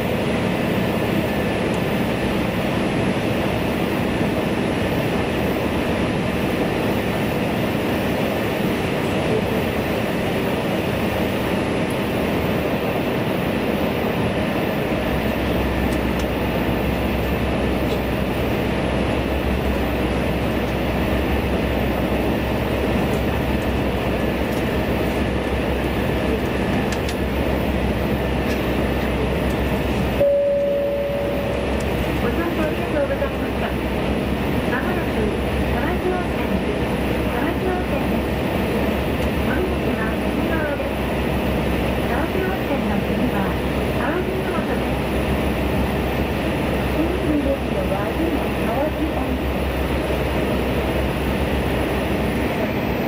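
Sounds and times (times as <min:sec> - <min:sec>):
train wheels rumbling in tunnel: 0:00.0 - 0:53.0.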